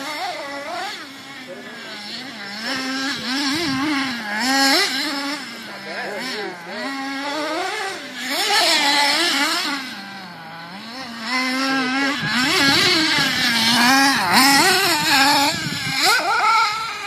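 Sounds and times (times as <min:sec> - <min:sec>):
toy car motor revving: 0:00.0 - 0:17.0.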